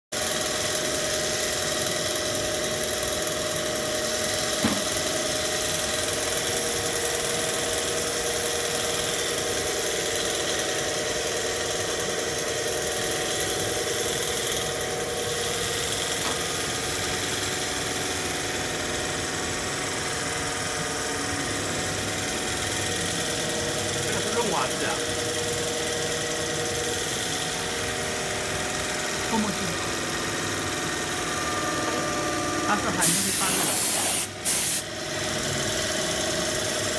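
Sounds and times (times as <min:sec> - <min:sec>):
machine humming with whine and hiss: 0:00.2 - 0:36.9.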